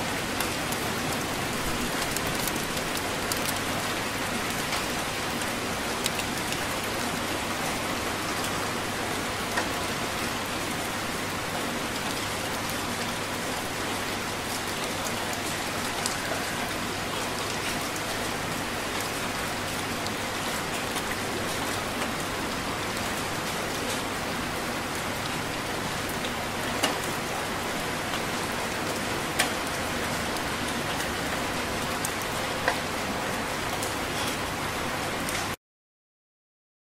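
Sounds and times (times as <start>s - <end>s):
heavy rain falling: 0.0s - 35.6s.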